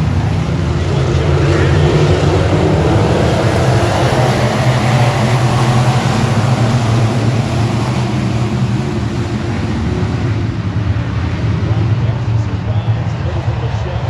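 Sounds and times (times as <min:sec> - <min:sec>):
race car engine droning: 0:00.0 - 0:14.0.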